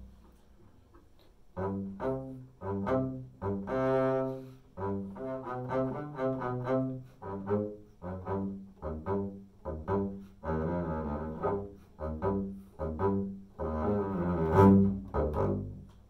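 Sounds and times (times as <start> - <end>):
bowed double bass: 0.0 - 0.6, 1.4 - 16.0.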